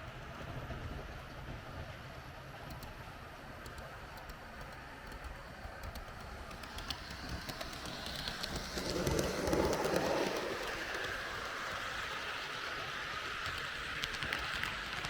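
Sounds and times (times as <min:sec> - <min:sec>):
model train rolling on track: 0:00.0 - 0:15.0
wheels ticking over rail joints: 0:00.3 - 0:15.0.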